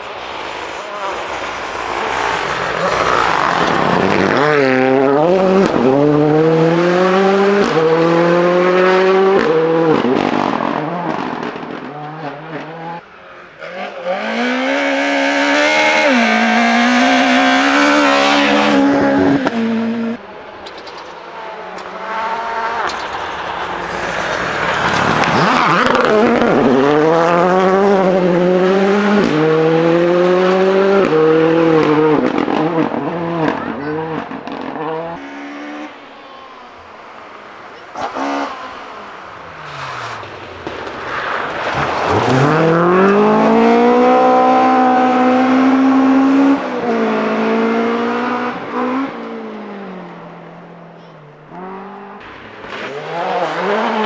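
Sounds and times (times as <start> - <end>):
rally car engines at full throttle: 0.0 - 54.0.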